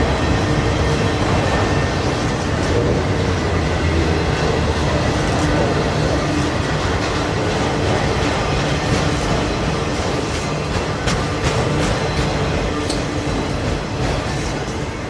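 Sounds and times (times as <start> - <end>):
freight train wheels rumbling: 0.0 - 15.0
wheels clacking over rail joints: 0.0 - 15.0.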